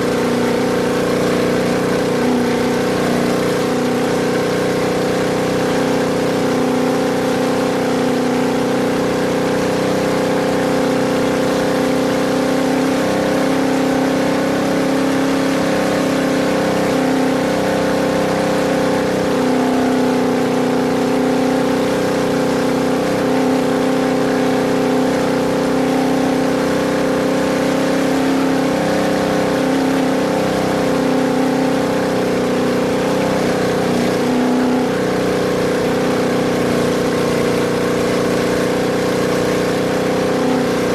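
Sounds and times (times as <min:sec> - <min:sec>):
race vehicle engine droning: 0:00.0 - 0:40.9
road and wind noise: 0:00.0 - 0:40.9.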